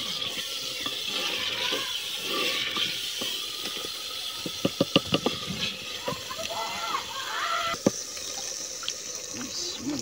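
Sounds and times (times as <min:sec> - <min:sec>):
curry hissing in a pot: 0:00.0 - 0:10.0.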